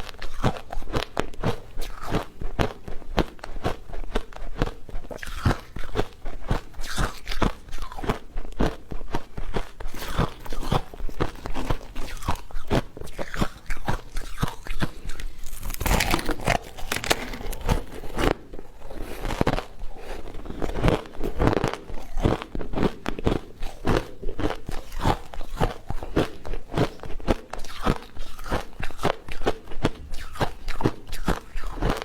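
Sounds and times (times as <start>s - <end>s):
close-up crunching: 0.0s - 32.0s.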